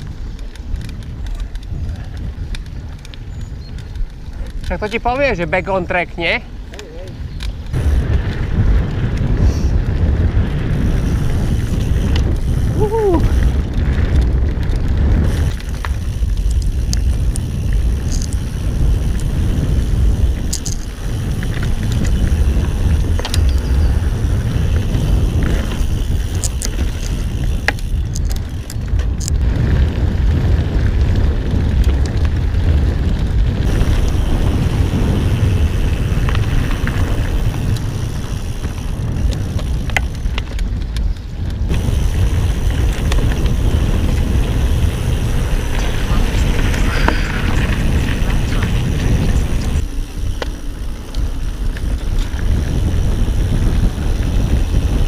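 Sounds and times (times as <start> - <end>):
bike clicks and rattles: 0.0 - 55.0
wind buffeting microphone: 0.0 - 55.0
tyres rolling over dirt: 7.7 - 55.0.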